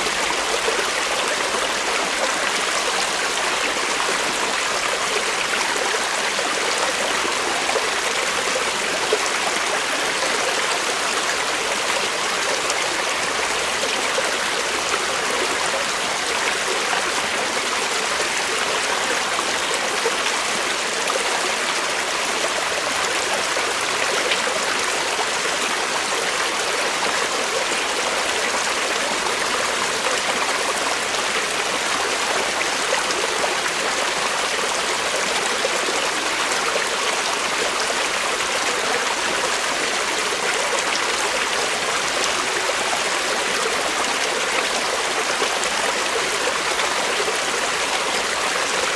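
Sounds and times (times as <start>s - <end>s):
creek water flowing over rocks: 0.0s - 48.9s.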